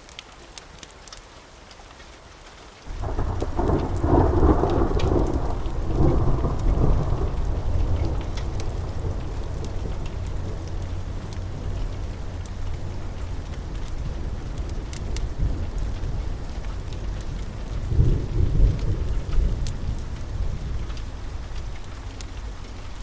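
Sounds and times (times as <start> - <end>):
steady rain: 0.0 - 23.0
thunderclap and rumble: 2.9 - 23.0.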